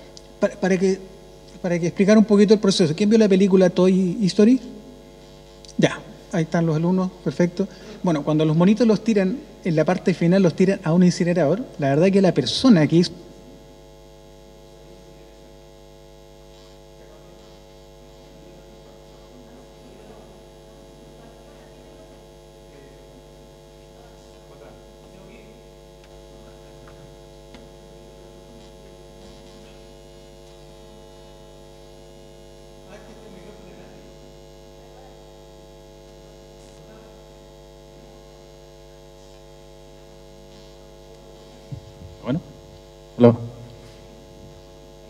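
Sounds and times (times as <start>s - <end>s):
electrical mains hum: 0.0s - 45.0s.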